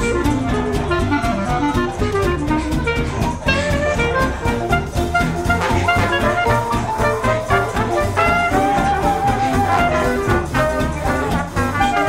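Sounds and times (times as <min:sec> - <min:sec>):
jazz music with horns: 0:00.0 - 0:12.0.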